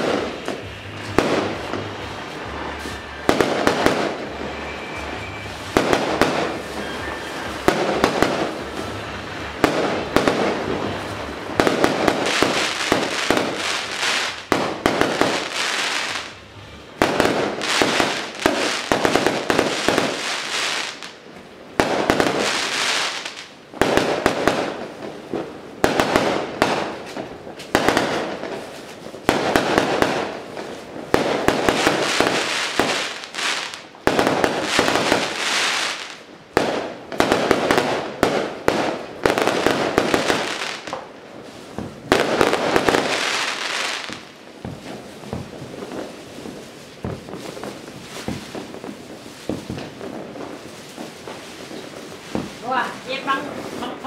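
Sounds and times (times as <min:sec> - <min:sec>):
fireworks and firecrackers bangs: 0:00.0 - 0:54.0.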